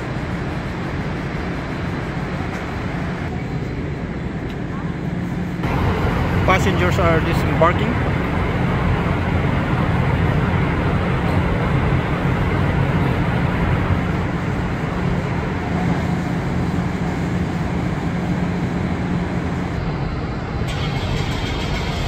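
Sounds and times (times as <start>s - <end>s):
machinery low hum: 0.0s - 22.0s
ventilation rushing noise: 0.0s - 22.0s.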